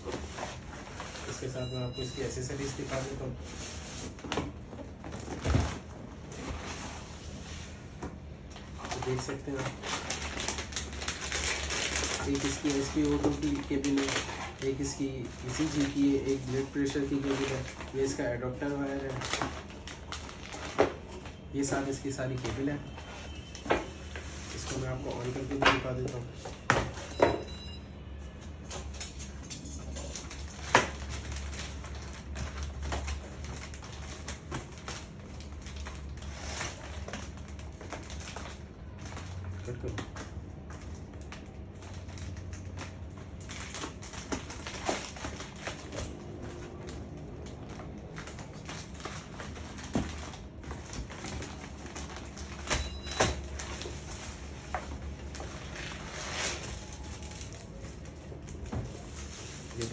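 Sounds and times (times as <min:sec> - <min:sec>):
plastic packaging crinkling: 0:00.0 - 0:07.6, 0:08.4 - 0:27.2, 0:28.6 - 0:59.9.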